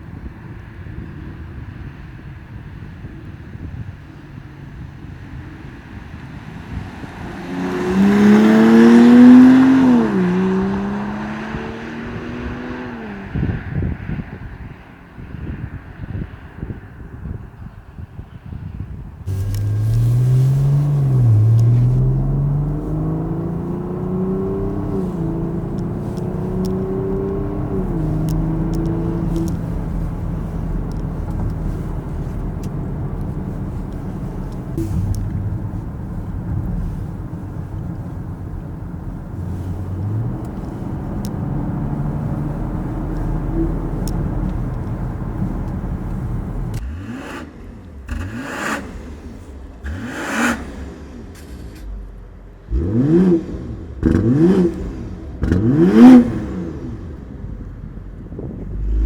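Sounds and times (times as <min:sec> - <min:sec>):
wind noise on microphone: 0:00.0 - 0:47.2, 0:54.8 - 0:59.0
car exhaust accelerating past: 0:04.6 - 0:14.8, 0:19.3 - 0:59.0.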